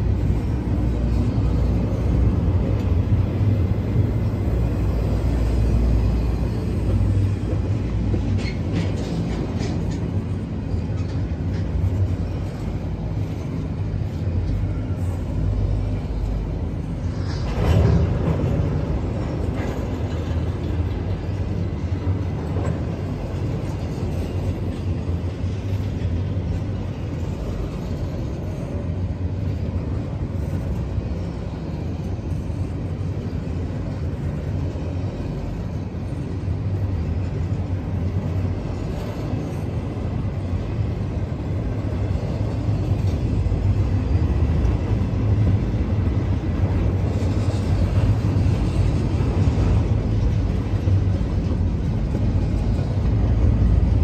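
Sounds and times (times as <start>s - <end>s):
freight train wheels rumbling on rail: 0.0s - 54.0s
train cars clattering: 0.0s - 54.0s.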